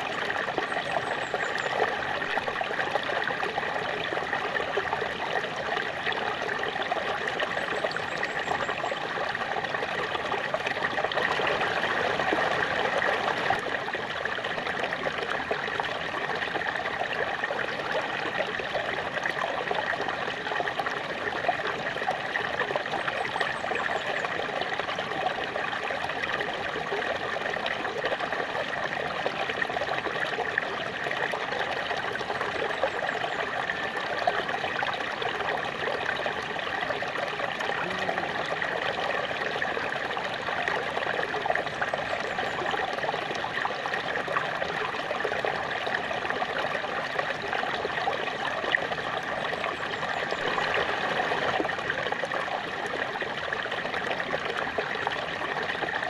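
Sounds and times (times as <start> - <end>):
small waterfall running: 0.0 - 56.0.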